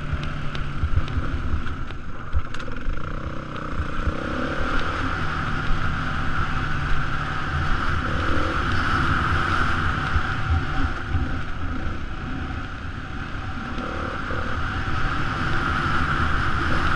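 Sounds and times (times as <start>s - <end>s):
dirt bike engine running: 0.0s - 16.9s.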